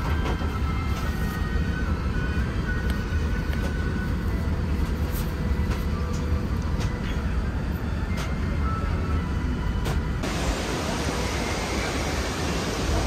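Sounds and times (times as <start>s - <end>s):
airliner cabin rumble and hiss: 0.0s - 13.0s.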